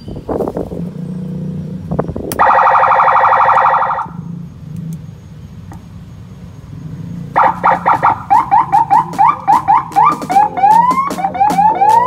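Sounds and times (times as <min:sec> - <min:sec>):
electronic siren buzzing tone: 0:00.9 - 0:12.0.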